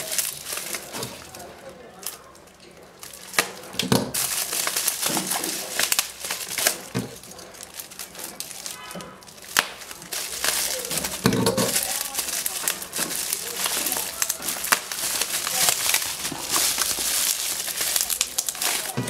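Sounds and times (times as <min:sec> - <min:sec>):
bubble wrap crinkling: 0:00.0 - 0:19.0.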